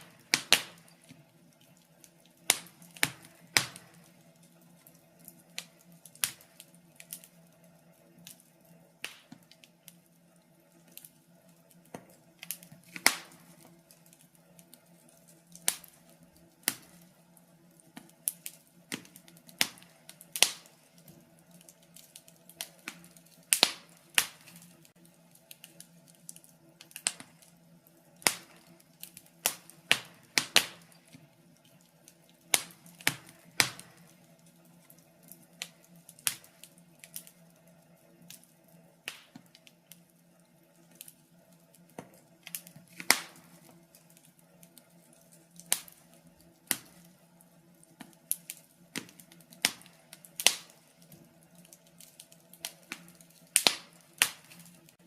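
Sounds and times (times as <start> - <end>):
sharp pops of fire: 0.0 - 7.4, 8.2 - 10.0, 10.8 - 17.2, 17.8 - 27.6, 28.2 - 37.4, 38.2 - 40.0, 40.9 - 47.2, 47.8 - 55.0
wood fire crackling: 0.0 - 55.0.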